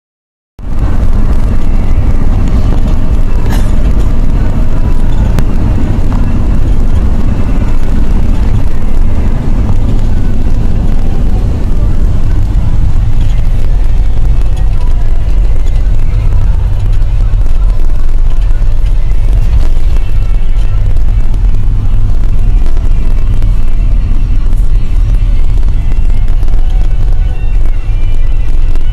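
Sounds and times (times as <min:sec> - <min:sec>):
wind and road noise in car: 0:00.6 - 0:28.9
wind buffeting microphone: 0:00.6 - 0:28.9.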